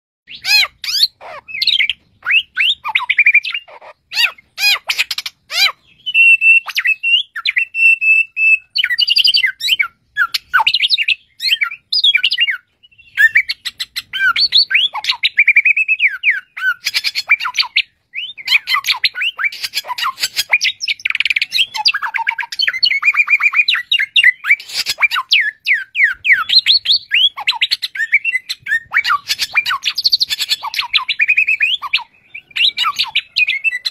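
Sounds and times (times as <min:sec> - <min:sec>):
songbird singing: 0:00.3 - 0:33.9.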